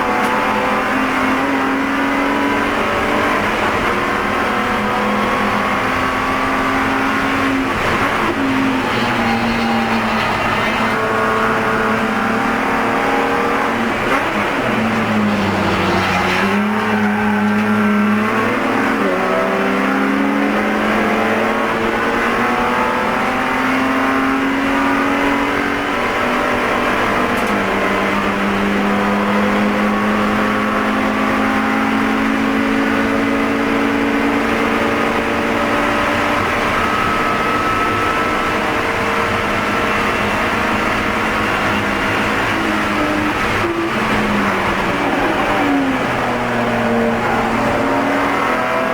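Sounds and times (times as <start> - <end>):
race car engine revving: 0.0 - 48.9.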